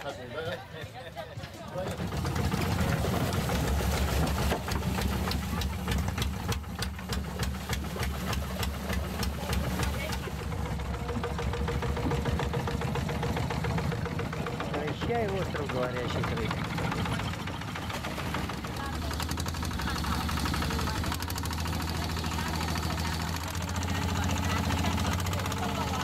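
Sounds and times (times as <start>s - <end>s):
boat engine rumbling and knocking: 0.0s - 26.0s.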